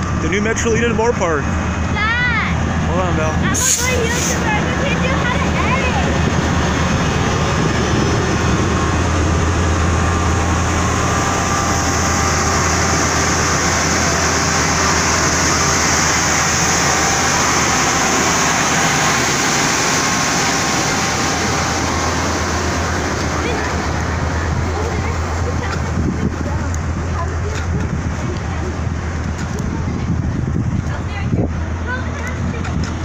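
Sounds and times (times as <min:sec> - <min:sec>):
diesel locomotive engine idling: 0:00.0 - 0:33.0.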